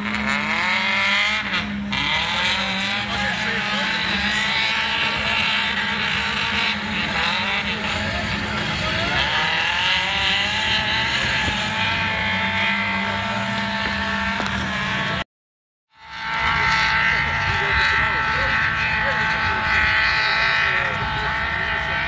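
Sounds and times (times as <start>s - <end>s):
racing car engines revving: 0.0s - 15.3s, 15.9s - 22.0s.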